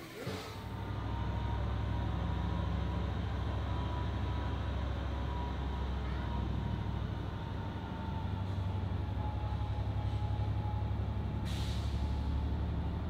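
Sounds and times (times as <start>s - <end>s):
heavy engine rumbling: 0.0s - 13.0s.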